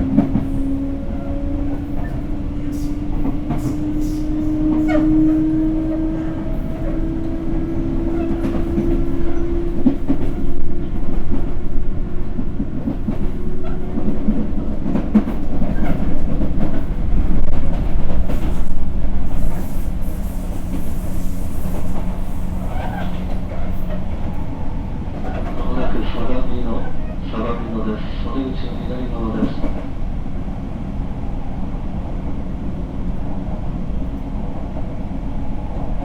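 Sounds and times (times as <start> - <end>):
train rail rumble: 0.0 - 36.0.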